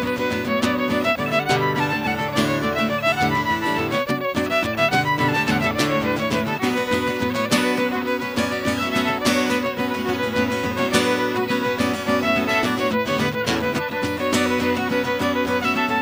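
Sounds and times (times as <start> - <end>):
fiddle playing a jig: 0.0 - 16.0.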